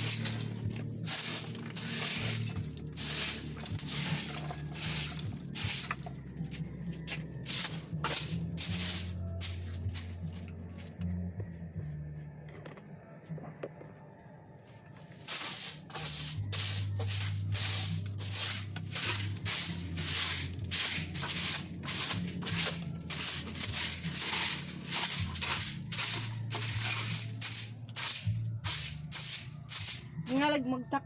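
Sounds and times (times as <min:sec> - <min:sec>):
bristle brush scrubbing: 0:00.0 - 0:06.2, 0:07.1 - 0:10.5, 0:15.0 - 0:30.4.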